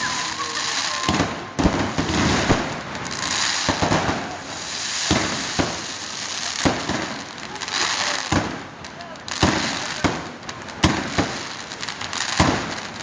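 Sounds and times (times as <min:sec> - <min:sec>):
fireworks crackling: 0:00.0 - 0:13.0
fireworks sharp bangs: 0:00.0 - 0:13.0.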